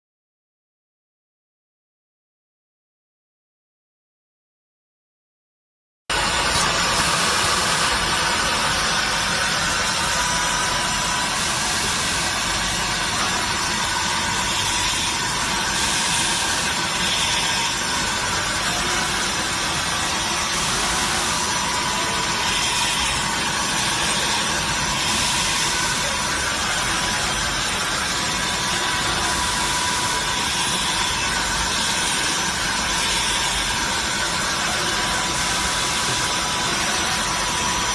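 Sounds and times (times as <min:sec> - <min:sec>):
router machine hiss with high whine: 0:06.1 - 0:37.9.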